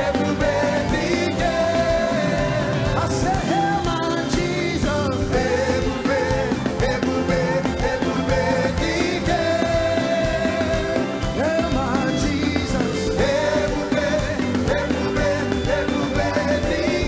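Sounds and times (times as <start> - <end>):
gospel band playing: 0.0 - 17.0
person singing: 0.0 - 17.0.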